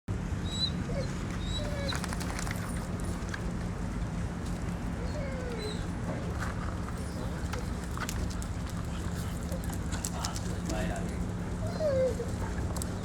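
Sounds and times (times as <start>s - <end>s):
low outdoor hum: 0.1s - 13.0s.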